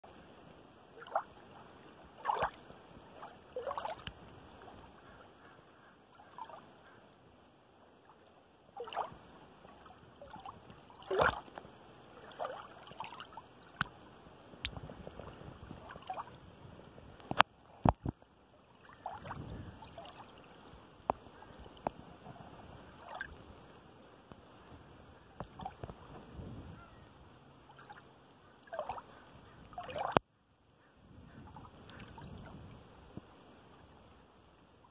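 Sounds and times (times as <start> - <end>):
shallow water lapping: 0.0 - 30.2, 30.8 - 34.9.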